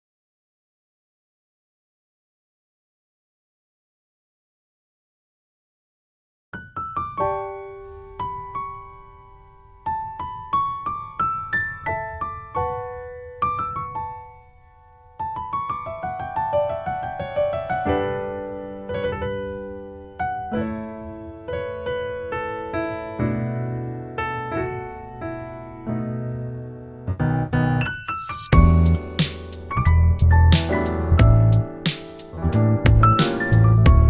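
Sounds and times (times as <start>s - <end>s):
gentle piano music: 6.6s - 34.0s.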